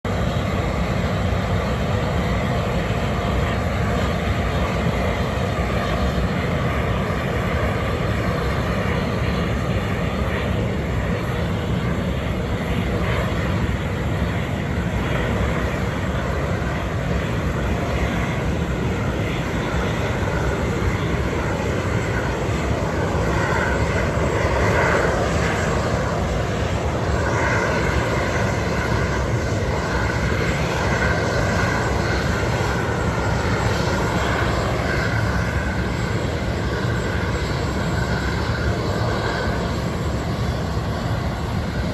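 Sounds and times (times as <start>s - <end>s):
jet engines taxiing rumble and whine: 0.0s - 41.9s.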